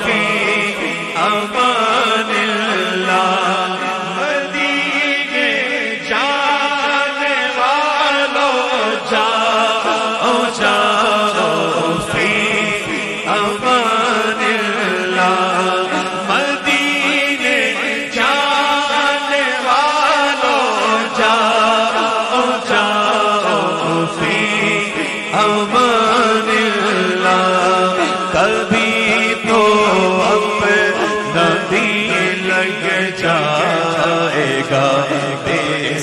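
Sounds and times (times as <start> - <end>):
man singing devotional song: 0.0 - 36.0.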